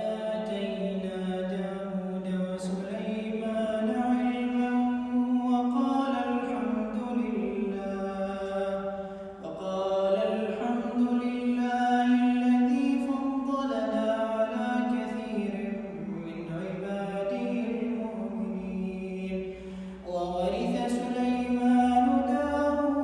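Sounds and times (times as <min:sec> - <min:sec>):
man chanting melodically: 0:00.0 - 0:23.0.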